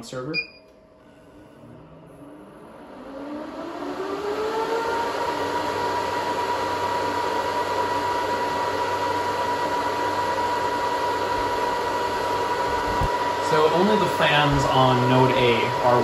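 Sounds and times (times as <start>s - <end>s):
server cooling fans whirring: 0.0s - 16.0s.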